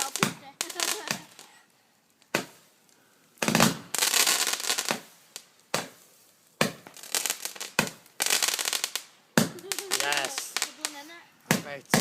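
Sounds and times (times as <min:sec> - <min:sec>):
firework bangs: 0:00.0 - 0:12.0
firework crackling bursts: 0:00.0 - 0:12.0.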